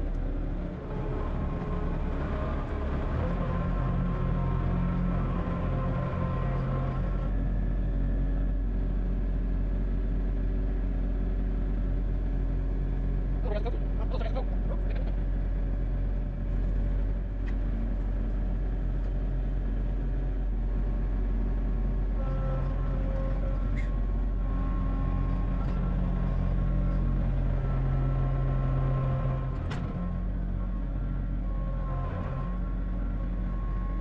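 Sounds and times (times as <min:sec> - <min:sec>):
vehicle engine humming: 0:00.0 - 0:34.0.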